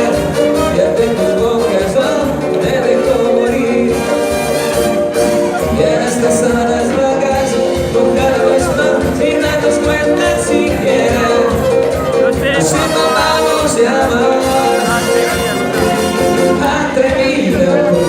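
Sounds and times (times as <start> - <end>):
latin dance band music: 0.0 - 18.0.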